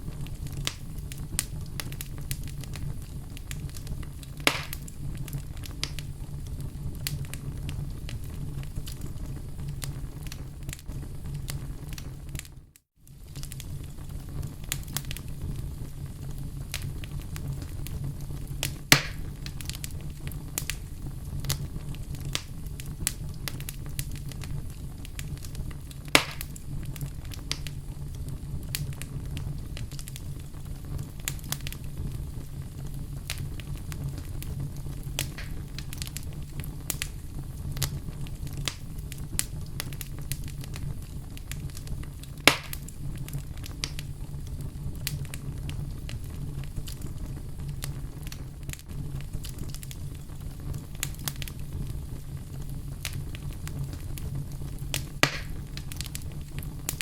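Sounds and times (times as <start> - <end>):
loud fire pops: 0.0 - 57.0
wood fire crackling and snapping: 0.0 - 57.0.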